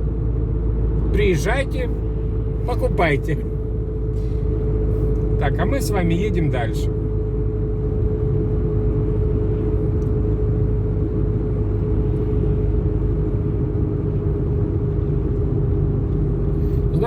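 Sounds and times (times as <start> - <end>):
constant whine: 0.0 - 17.0
engine and tyre rumble: 0.0 - 17.0.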